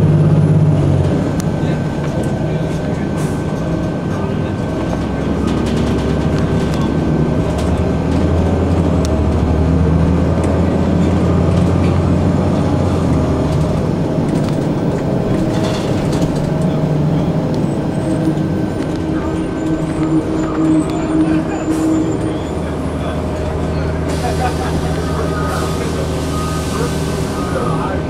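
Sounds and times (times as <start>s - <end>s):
bus diesel engine droning: 0.0s - 28.0s
road noise: 0.0s - 28.0s.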